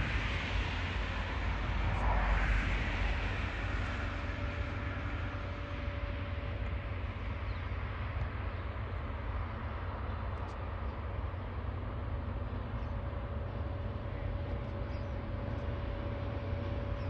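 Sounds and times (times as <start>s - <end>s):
distant train rumbling: 0.0s - 17.0s.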